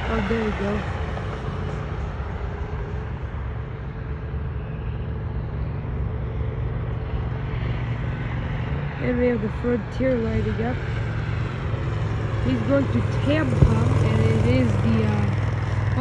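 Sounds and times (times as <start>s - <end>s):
deep rumble: 0.0s - 16.0s
jet engine roar: 0.0s - 16.0s.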